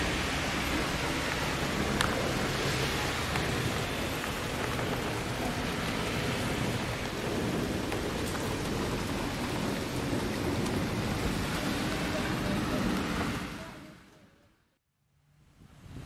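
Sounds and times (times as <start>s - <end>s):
wind rumbling on microphone: 0.0s - 13.8s, 15.4s - 16.0s
rain hissing: 0.0s - 14.3s.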